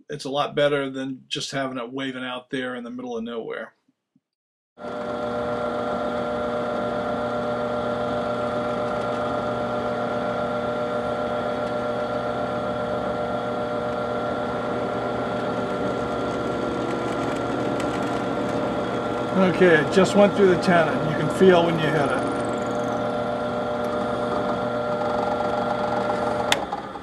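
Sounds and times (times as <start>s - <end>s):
drill press drilling wood: 4.8s - 27.0s.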